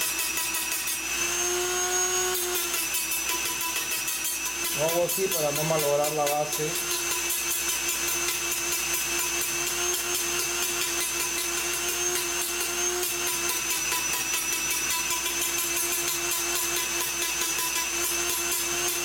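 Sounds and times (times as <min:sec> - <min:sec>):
rotary tool grinding metal: 0:00.0 - 0:19.0.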